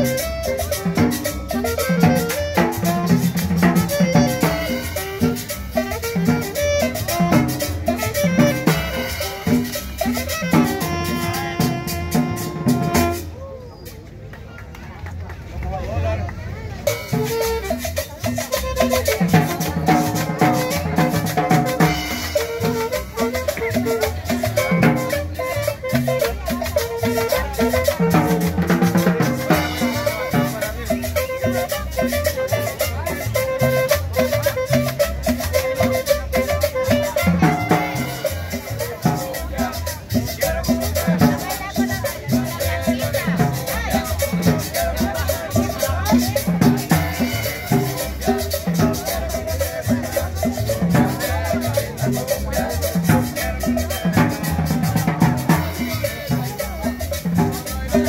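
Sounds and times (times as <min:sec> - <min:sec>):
latin dance band music: 0:00.0 - 0:14.0, 0:15.8 - 0:58.0.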